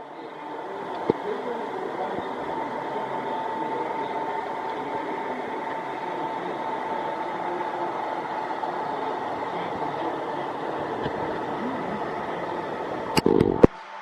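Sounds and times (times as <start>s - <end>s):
train rolling by: 0.0s - 13.7s
thin high steady tone: 0.0s - 13.8s.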